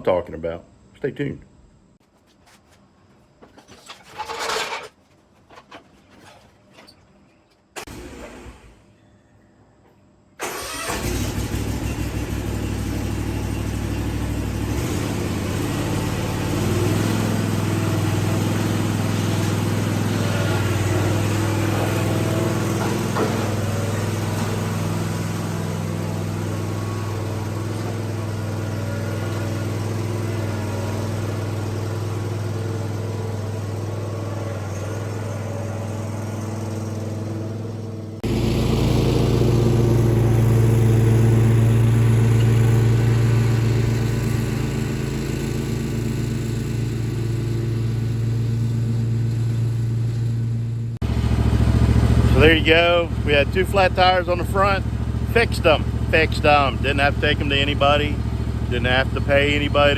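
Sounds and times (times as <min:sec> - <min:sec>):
mower engine running: 0:10.4 - 0:59.9.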